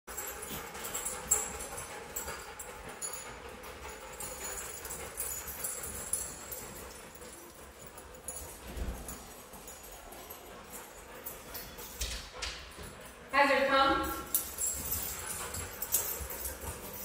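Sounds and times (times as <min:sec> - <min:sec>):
collar tags jingling: 0:00.1 - 0:17.0.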